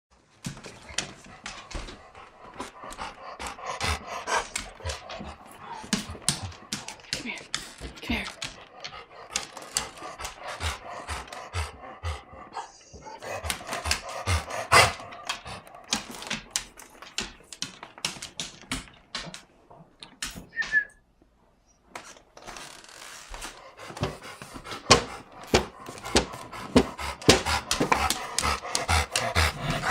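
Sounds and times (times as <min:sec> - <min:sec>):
dog panting rapidly: 0:00.5 - 0:18.8, 0:23.4 - 0:29.9.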